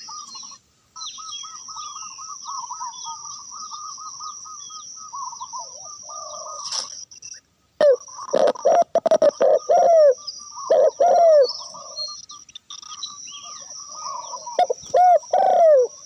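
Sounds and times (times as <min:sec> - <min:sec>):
doves calling: 0:00.0 - 0:16.0
small birds chirping: 0:00.0 - 0:16.0.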